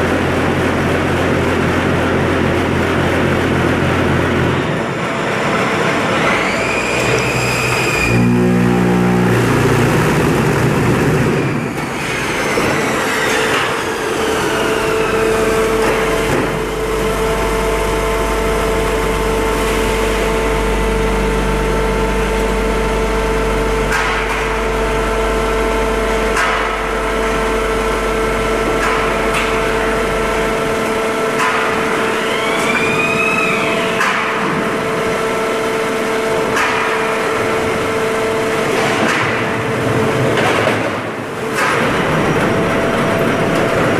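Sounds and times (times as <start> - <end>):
machine hum: 0.0 - 43.9
machine whines: 0.0 - 43.9.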